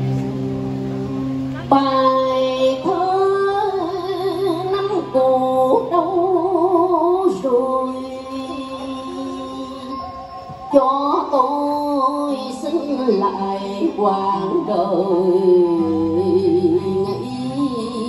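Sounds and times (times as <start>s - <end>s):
low accompanying tone: 0.0s - 18.0s
woman singing through loudspeakers: 1.6s - 18.0s.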